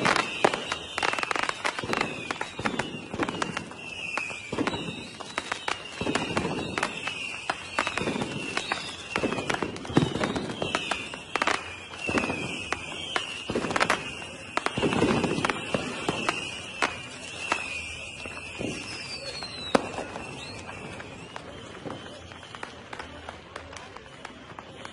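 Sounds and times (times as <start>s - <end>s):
high wavering whistle: 0.0s - 22.3s
fireworks bangs and crackles: 0.0s - 24.9s.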